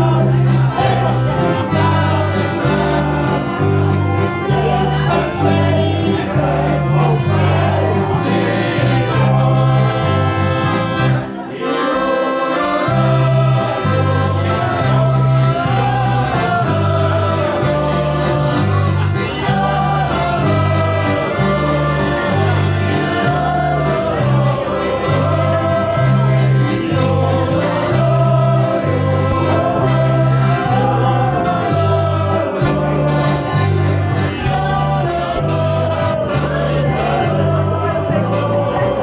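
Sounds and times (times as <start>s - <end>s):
acoustic guitars: 0.0s - 39.0s
bass line: 0.0s - 39.0s
group singing in unison: 0.0s - 39.0s.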